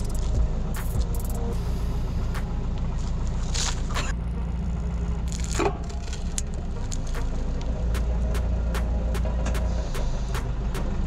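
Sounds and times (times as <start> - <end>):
forklift engine humming: 0.0 - 11.0.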